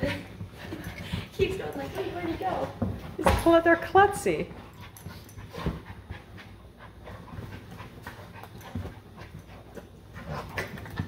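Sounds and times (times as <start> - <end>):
dogs panting: 0.0 - 2.8, 4.5 - 11.0.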